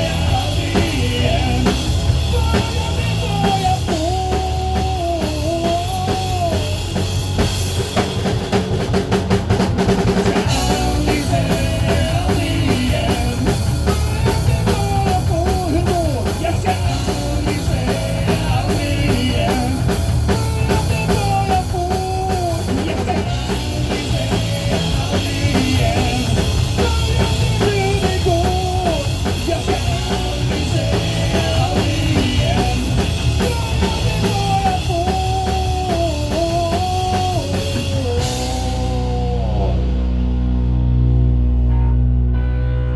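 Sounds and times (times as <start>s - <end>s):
rock band playing: 0.0s - 42.9s.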